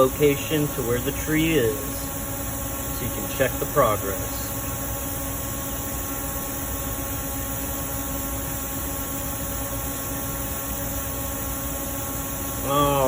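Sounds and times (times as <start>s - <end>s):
electrical fan-like hum: 0.0s - 13.0s.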